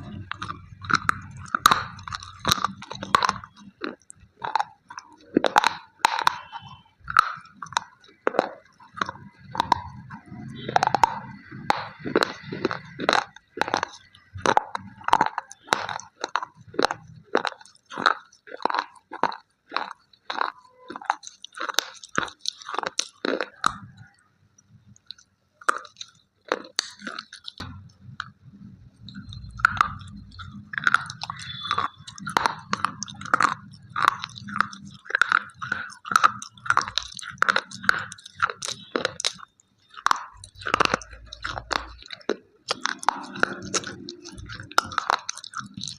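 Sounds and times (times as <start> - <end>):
crunchy chewing: 0.0 - 24.2, 24.9 - 45.9.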